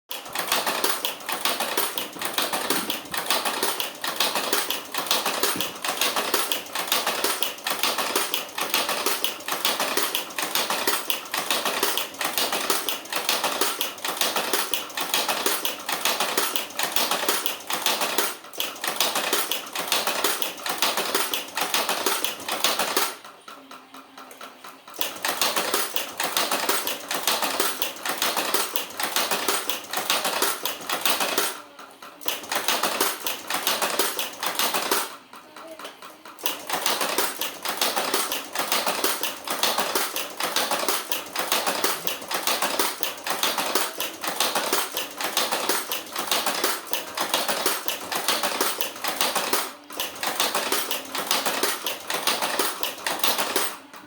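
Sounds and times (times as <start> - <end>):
machine clattering: 0.1 - 54.0.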